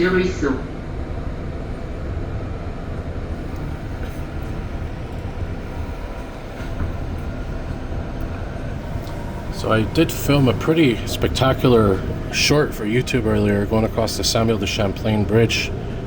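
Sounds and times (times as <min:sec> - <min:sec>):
rushing noise: 0:00.0 - 0:16.0
train wheels and motors rumbling: 0:00.0 - 0:16.0.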